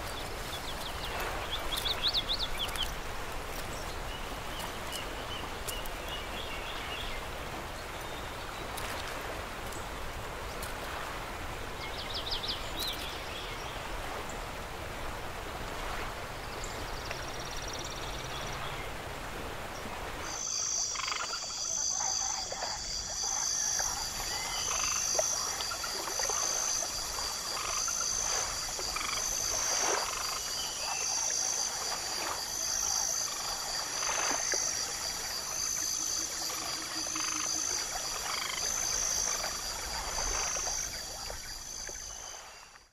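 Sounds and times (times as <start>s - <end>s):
hissy background: 0.0s - 42.9s.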